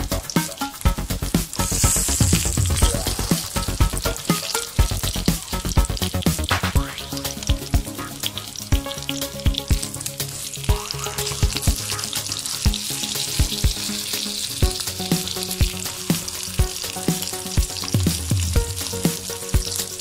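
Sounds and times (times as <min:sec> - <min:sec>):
pork chops sizzling in oil: 0:00.0 - 0:20.0.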